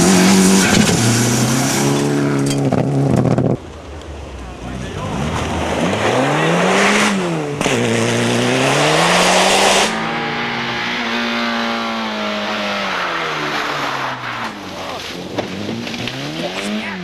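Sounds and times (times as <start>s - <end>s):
rally car engine accelerating: 0.0s - 17.0s
tyres rushing on road: 0.0s - 17.0s.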